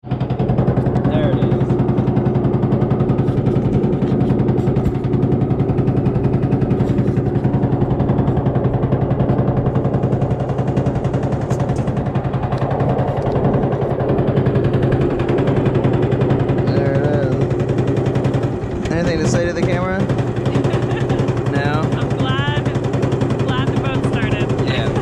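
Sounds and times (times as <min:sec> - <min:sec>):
boat engine chugging: 0:00.0 - 0:25.0.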